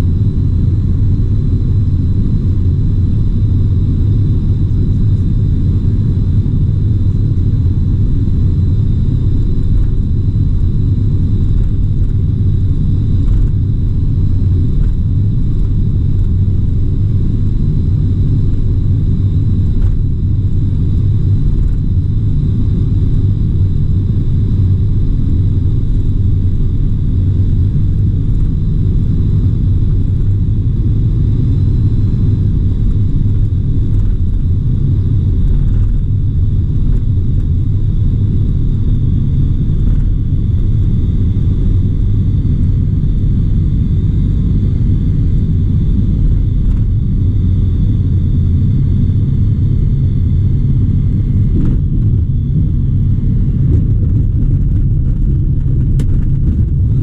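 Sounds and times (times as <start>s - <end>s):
aircraft engine drone: 0.0s - 57.0s
faint high whine: 0.0s - 57.0s.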